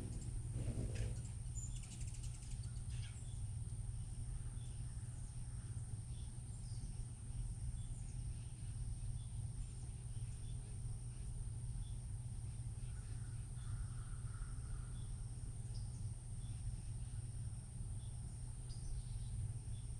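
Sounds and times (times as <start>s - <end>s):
insect drone: 0.0s - 19.9s
low steady hum: 0.0s - 19.9s.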